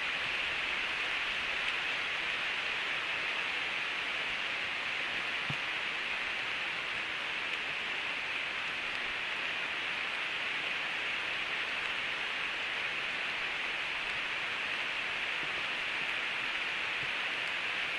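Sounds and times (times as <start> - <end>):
heavy rain on foliage: 0.0 - 17.9.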